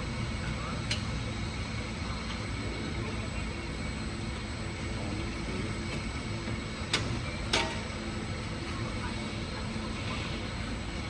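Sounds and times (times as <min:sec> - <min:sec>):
garage background hum: 0:00.0 - 0:11.0.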